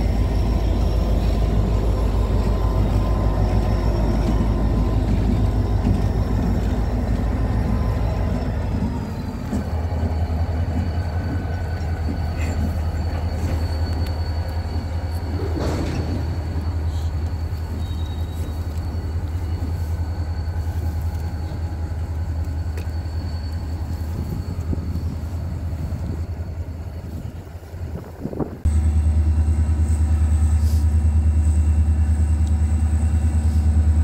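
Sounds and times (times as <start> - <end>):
freight train rumbling: 0.0 - 34.0.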